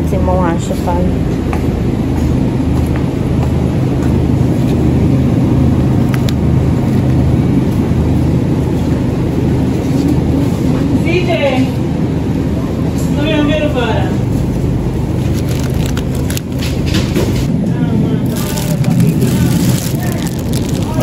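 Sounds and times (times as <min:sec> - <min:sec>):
low mechanical rumble: 0:00.0 - 0:21.0.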